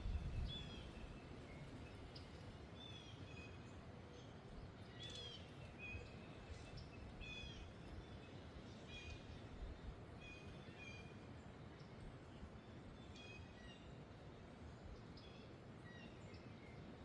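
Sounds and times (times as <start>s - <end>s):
faint wind: 0.0s - 17.0s.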